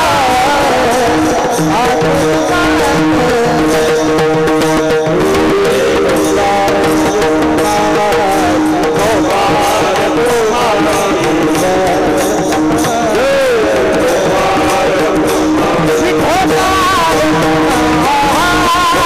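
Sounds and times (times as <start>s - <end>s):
hand drum beat: 0.0s - 19.0s
held accompaniment notes: 0.0s - 19.0s
man singing devotional song: 0.0s - 19.0s.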